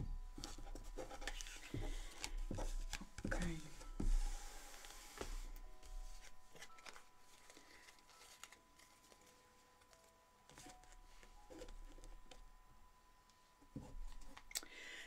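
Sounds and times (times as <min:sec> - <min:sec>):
cards rustling and tapping: 0:00.3 - 0:12.4.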